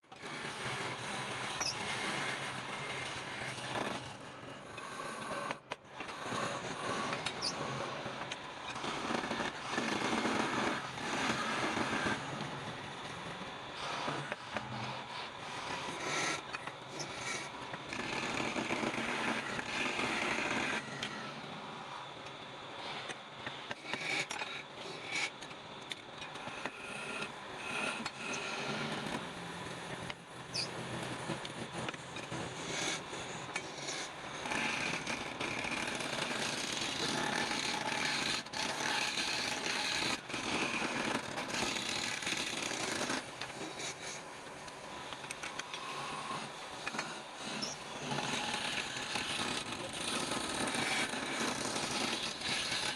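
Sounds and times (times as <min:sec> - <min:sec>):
tools scraping and grinding wood: 0:00.1 - 0:21.3, 0:22.9 - 0:52.9.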